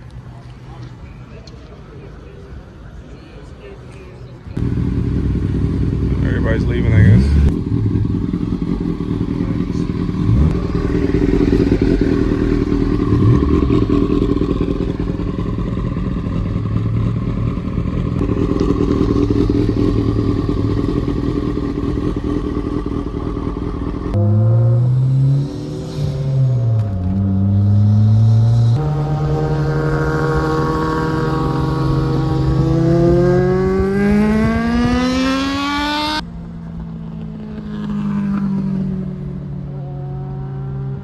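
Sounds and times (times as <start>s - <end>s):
car engines rumbling: 0.0s - 41.0s
engine revving: 4.6s - 36.3s, 37.4s - 41.0s.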